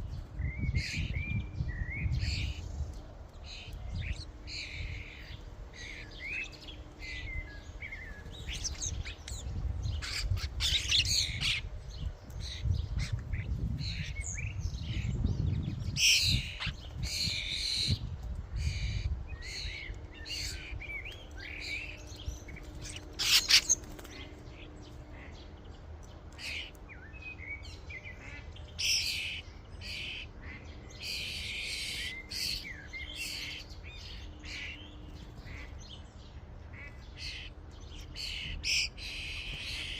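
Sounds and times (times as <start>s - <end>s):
starlings chattering: 0.0s - 39.9s.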